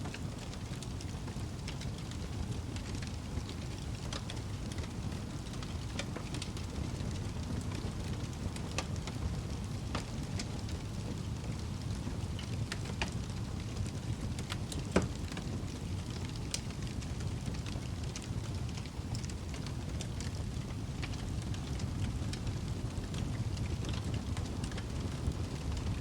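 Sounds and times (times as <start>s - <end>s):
fire crackles and pops: 0.0s - 26.0s
low rumble of flames: 0.0s - 26.0s.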